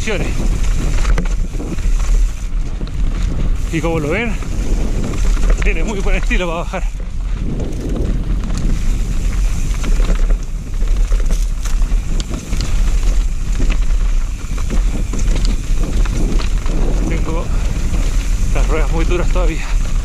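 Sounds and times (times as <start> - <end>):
bike rattling clicks: 0.0 - 20.0
tyres on dirt and loose stones: 0.0 - 20.0
wind buffeting microphone: 0.0 - 20.0.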